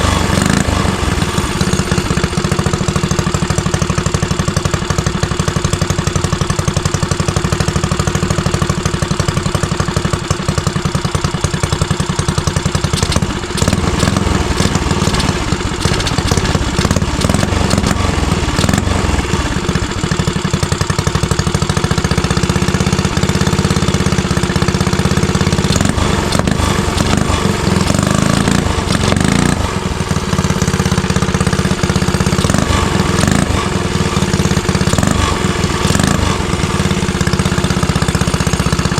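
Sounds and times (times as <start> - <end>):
small engine idling and revving: 0.0 - 38.9.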